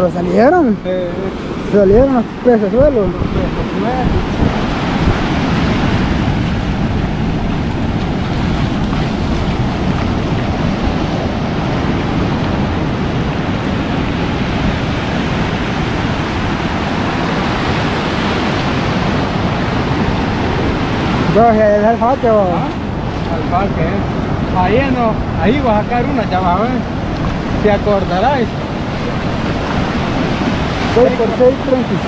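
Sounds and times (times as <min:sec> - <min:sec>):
ocean surf washing up beach: 0:00.0 - 0:32.0.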